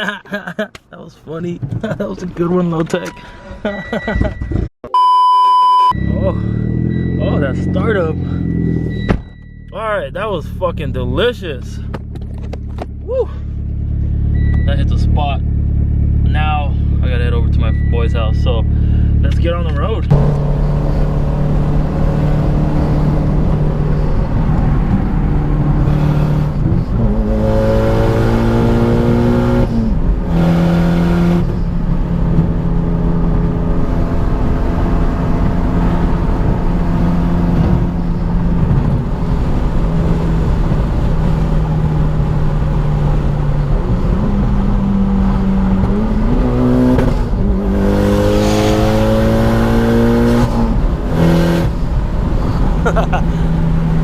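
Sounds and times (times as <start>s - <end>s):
car engine accelerating through gears: 5.8s - 54.0s.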